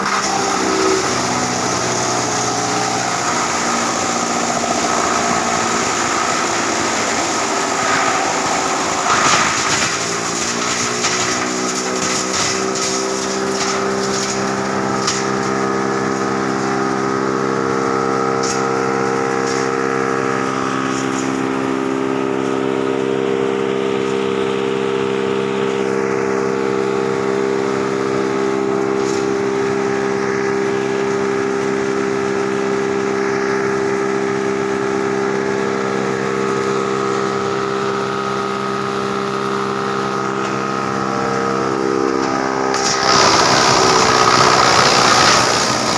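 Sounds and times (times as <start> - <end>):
wood chipper humming: 0.0 - 45.9.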